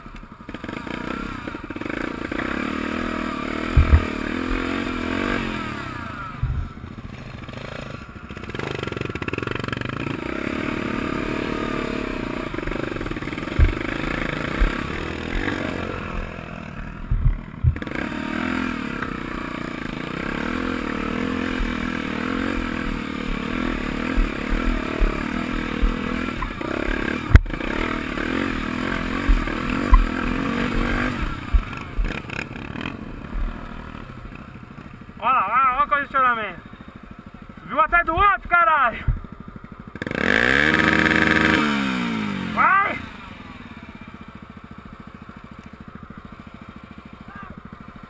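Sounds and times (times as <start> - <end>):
motorcycle engine under throttle: 0.0 - 48.0
motorcycle jolting over ruts: 0.1 - 35.3, 36.7 - 48.0.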